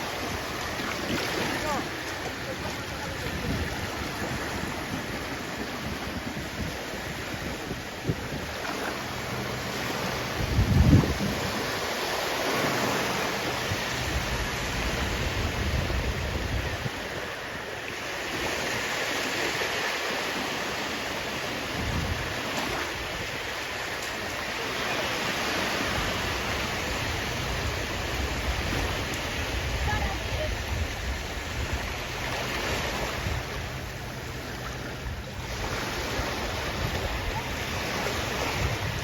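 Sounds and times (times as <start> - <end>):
wind buffeting microphone: 0.0 - 19.7, 20.4 - 39.0
sea waves breaking on shore: 0.0 - 39.0.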